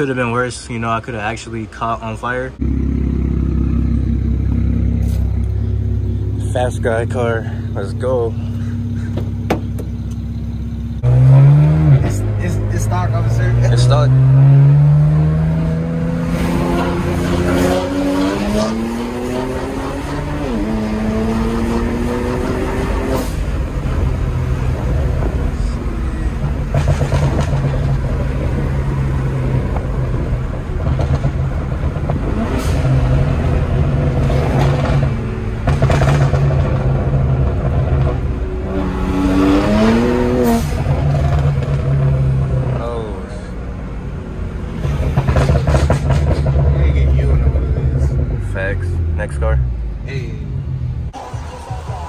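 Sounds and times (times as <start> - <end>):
car engine accelerating: 2.6 - 52.0.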